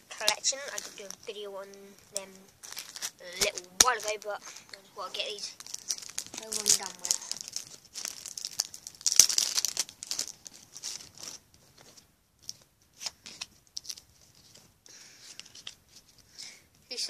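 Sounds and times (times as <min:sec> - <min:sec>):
wrapper tearing and crinkling: 0:00.1 - 0:14.7.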